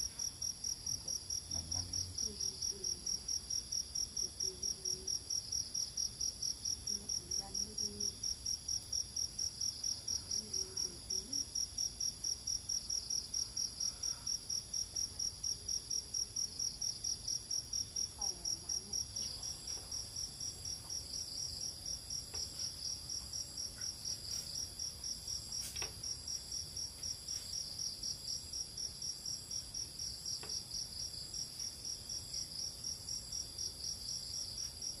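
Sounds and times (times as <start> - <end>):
crickets chirping: 0.0 - 35.0
high insect hiss: 5.1 - 35.0.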